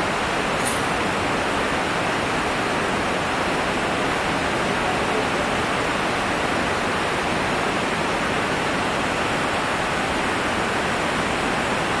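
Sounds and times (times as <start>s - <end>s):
river torrent rushing over boulders: 0.0s - 12.0s.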